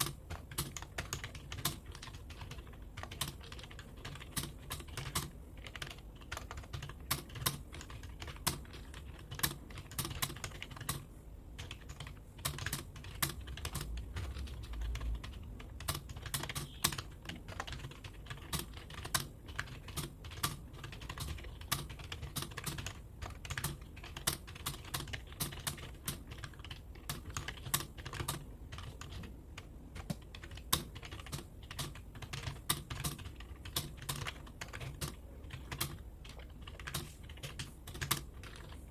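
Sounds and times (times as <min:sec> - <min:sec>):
typing on computer keyboard: 0:00.0 - 0:38.9.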